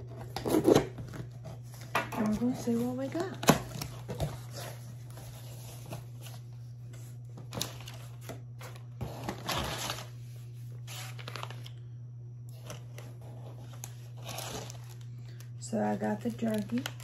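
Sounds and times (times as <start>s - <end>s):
packaging rustling and crinkling: 0.0s - 11.8s, 12.5s - 17.0s.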